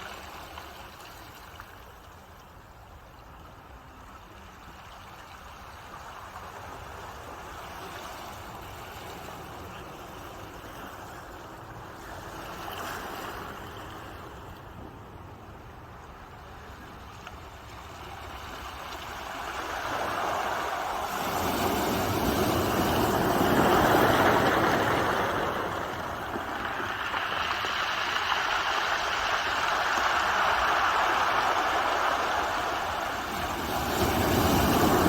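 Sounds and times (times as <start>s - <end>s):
ocean waves washing ashore: 0.0s - 35.0s.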